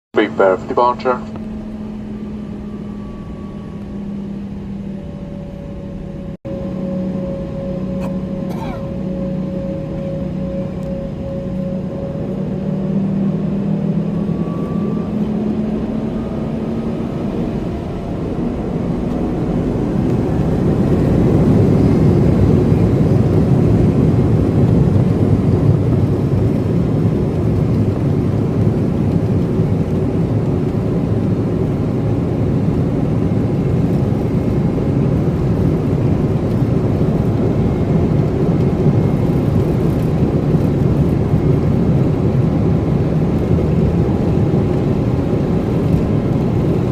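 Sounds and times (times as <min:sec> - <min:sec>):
rush of engine and air noise: 0:00.2 - 0:46.9.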